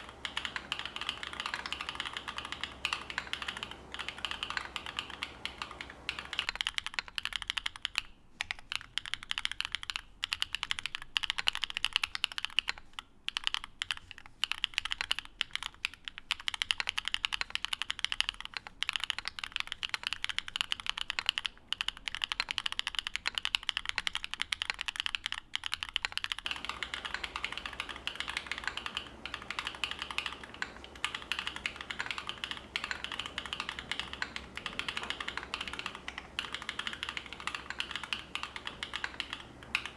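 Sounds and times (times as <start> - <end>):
fast typing on mechanical keyboard: 0.0 - 39.9
low background hum: 0.0 - 39.9.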